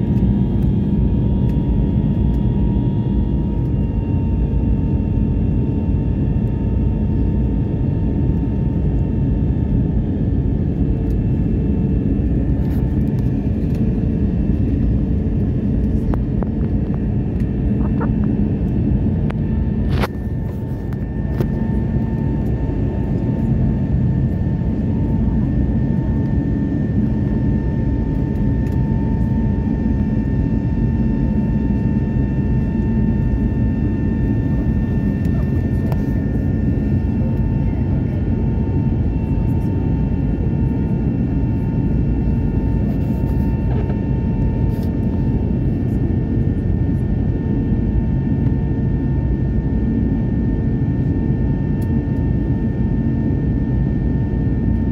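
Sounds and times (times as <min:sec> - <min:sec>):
airliner engines rumbling: 0:00.0 - 0:54.9
steady whine: 0:00.0 - 0:54.9.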